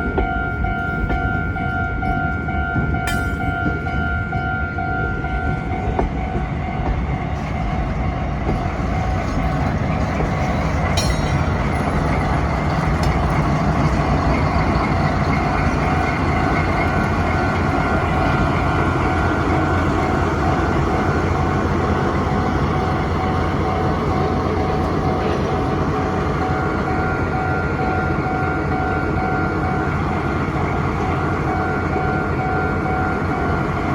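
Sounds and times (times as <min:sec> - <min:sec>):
diesel locomotive: 0:00.0 - 0:33.9
freight train rolling past: 0:00.0 - 0:33.9.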